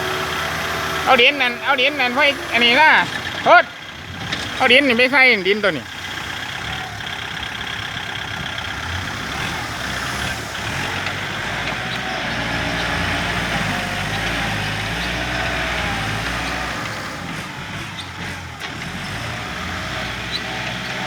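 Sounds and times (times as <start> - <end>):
earthmoving machine engine running: 0.0 - 21.0.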